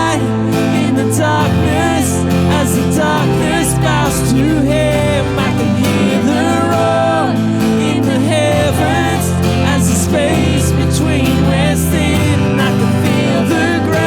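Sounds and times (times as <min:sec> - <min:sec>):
guitar: 0:00.0 - 0:14.0
steady bass notes: 0:00.0 - 0:14.0
sung melody: 0:00.0 - 0:14.0
worship band playing: 0:00.0 - 0:14.0.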